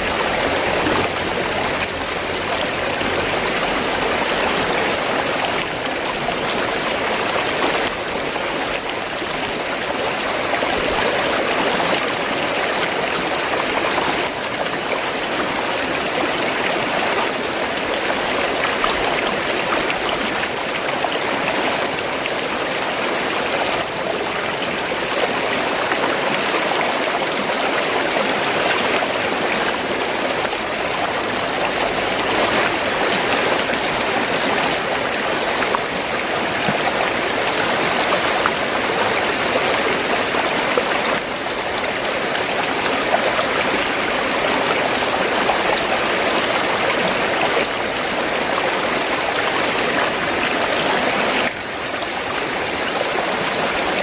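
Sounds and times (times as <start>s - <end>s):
stream water gurgling and rushing: 0.0s - 54.0s.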